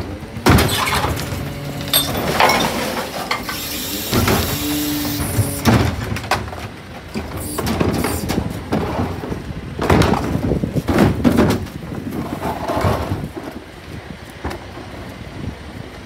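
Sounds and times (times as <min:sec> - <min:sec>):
garbage truck engine running: 0:00.0 - 0:16.0
bins knocking and clattering: 0:00.4 - 0:13.5.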